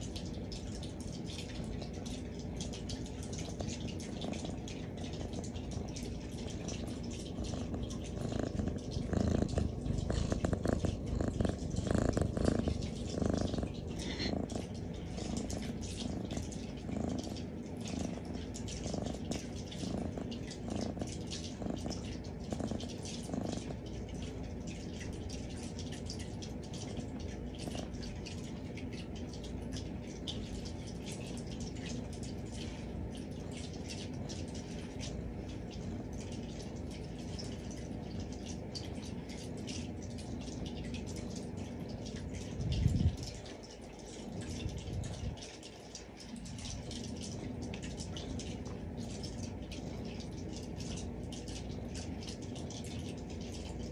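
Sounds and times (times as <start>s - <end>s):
cat purring: 0.1s - 38.7s, 44.2s - 53.8s.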